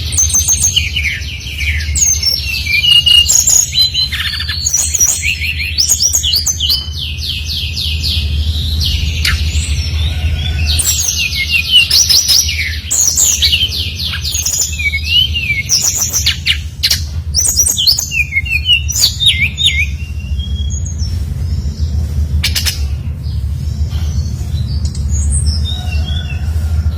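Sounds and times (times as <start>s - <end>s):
bird singing trills and whistles: 0.0s - 26.4s
steady low hum: 0.0s - 26.9s.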